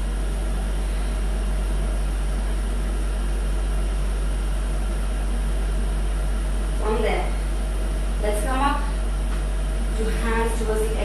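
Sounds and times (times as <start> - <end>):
deep hum: 0.0 - 11.0.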